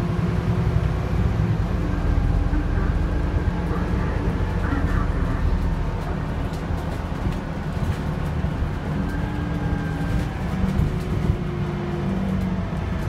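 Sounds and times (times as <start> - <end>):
bus engine rumble: 0.0 - 13.0
constant hum: 0.0 - 13.0.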